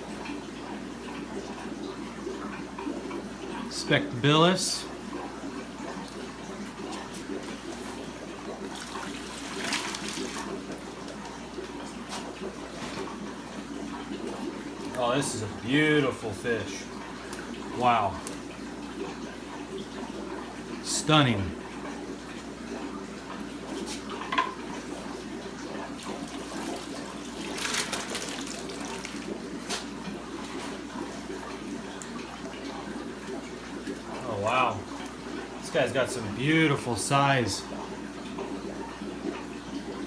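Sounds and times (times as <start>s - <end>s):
water pouring into bucket: 3.4s - 21.7s, 24.7s - 40.0s.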